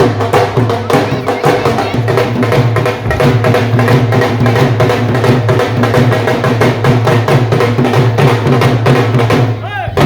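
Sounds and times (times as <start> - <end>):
dhol drums in a fast rhythm: 0.0 - 10.0.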